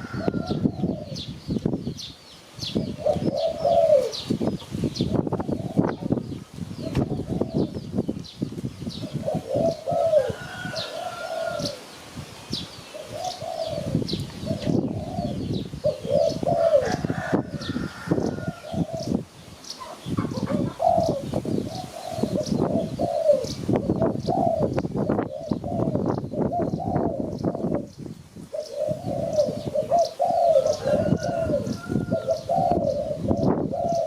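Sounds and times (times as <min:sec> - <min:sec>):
doves cooing: 0:00.0 - 0:01.4, 0:02.6 - 0:08.0, 0:08.8 - 0:34.0
small birds chirping: 0:00.0 - 0:34.0.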